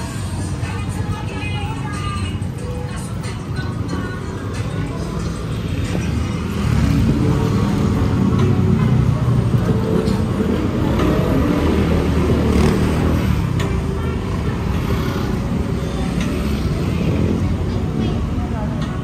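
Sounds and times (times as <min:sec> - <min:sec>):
people's voices: 0:00.0 - 0:19.0
vehicle engines running: 0:00.0 - 0:19.0.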